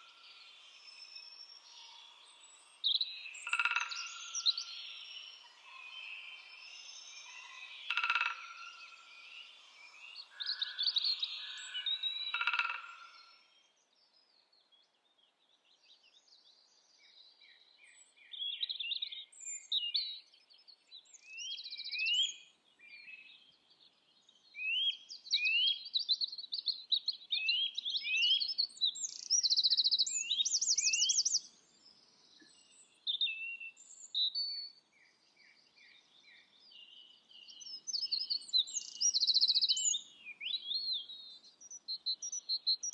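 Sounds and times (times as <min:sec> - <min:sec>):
songbird singing trills: 0:00.0 - 0:13.6, 0:16.0 - 0:42.9.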